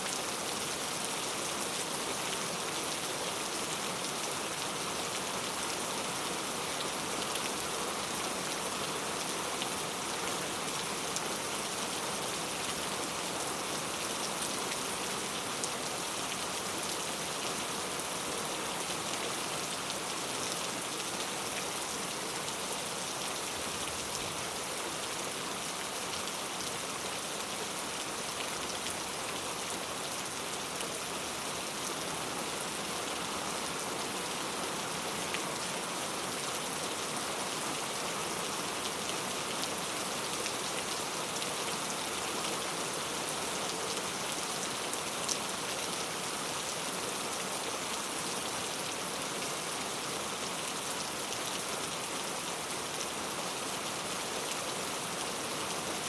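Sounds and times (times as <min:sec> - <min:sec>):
heavy rain on hard street: 0:00.0 - 0:56.0.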